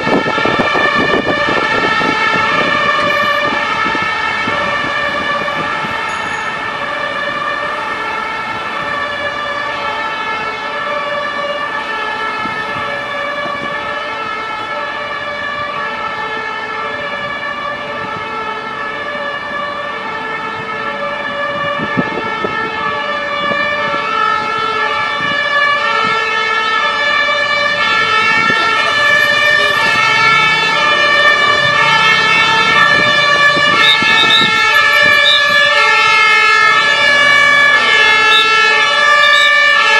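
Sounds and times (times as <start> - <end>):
two-tone emergency sirens: 0.0 - 39.9.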